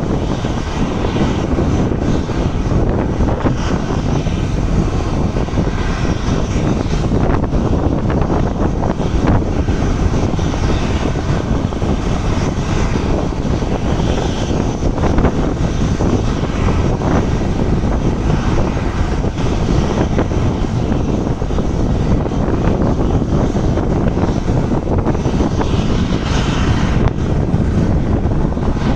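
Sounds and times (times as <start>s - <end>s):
jet engines running: 0.0s - 28.9s.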